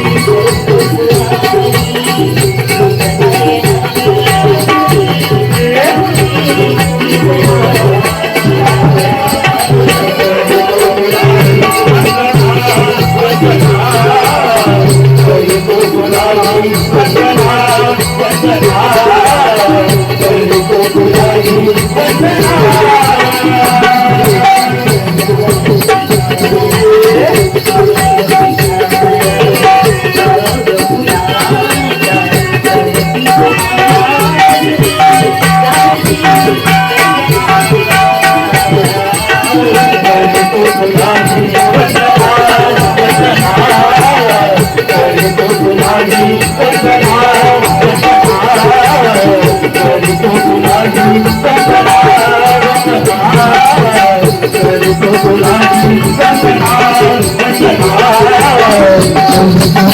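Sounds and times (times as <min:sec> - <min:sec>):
fast percussion beat: 0:00.0 - 0:59.9
held melody line: 0:00.0 - 0:59.9.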